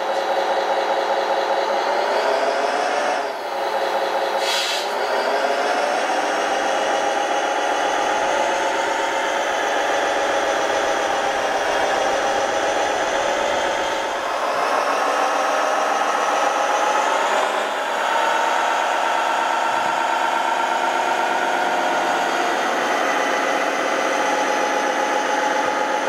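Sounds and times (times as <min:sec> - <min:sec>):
model truck engine drone: 0:00.0 - 0:26.0.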